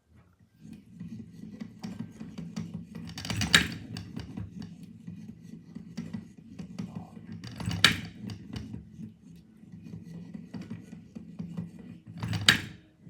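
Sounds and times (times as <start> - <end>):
wooden mechanism clicking and scraping: 0.5 - 13.0.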